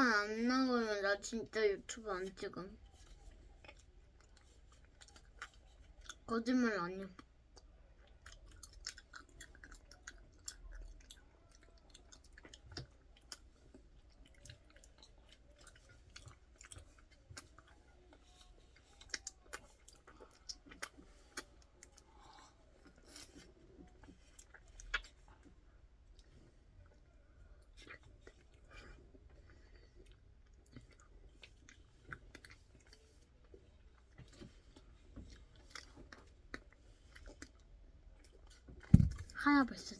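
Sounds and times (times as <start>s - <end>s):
person chewing ice cream: 2.8s - 6.3s, 7.0s - 39.3s.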